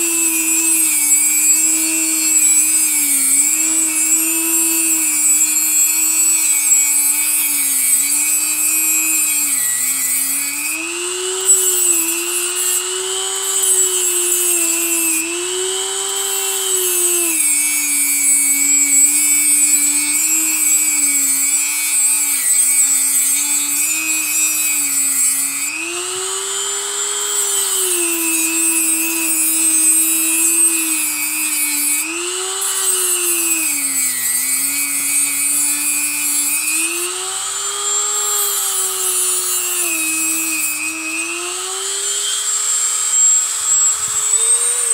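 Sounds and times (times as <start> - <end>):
rotary tool cutting metal: 0.0 - 44.9.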